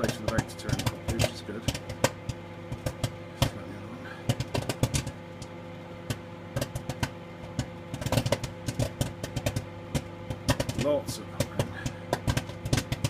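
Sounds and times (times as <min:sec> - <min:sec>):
microwave oven humming: 0:00.0 - 0:13.0
popcorn popping: 0:00.0 - 0:13.0.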